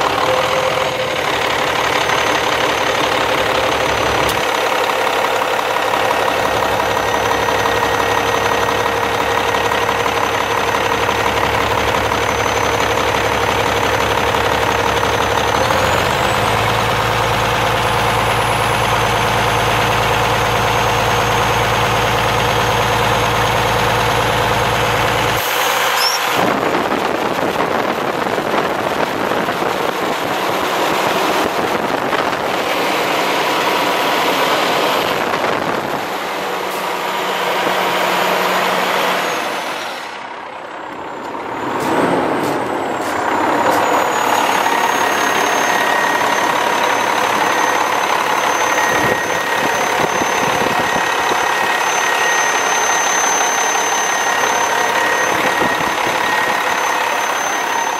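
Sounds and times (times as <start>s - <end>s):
diesel engine rumble: 0.0s - 57.9s
engine rushing noise: 0.0s - 57.9s.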